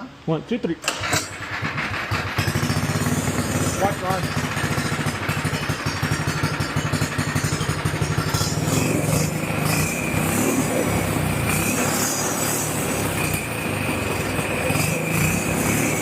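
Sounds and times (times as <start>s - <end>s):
go-kart engine revving: 0.9s - 16.0s.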